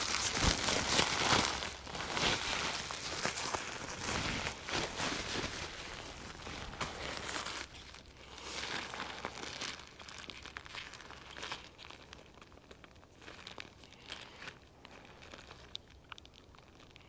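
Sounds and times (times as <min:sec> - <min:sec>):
camping gear crinkling and rustling: 0:00.0 - 0:17.0.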